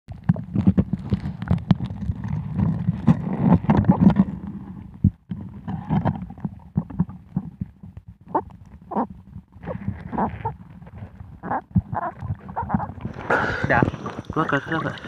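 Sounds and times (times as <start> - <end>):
low underwater rumble: 0.1 - 15.0.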